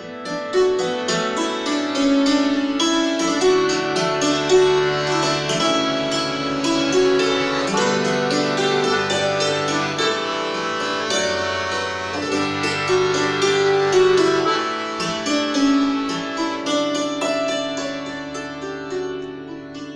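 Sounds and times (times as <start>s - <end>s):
hammered dulcimer: 0.0s - 19.9s
melodeon: 0.0s - 19.9s.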